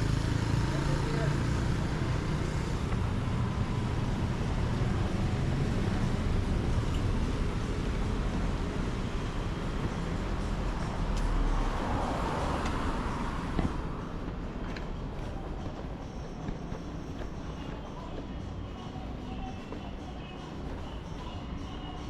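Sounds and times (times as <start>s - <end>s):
low rumble of vehicles: 0.0s - 22.0s.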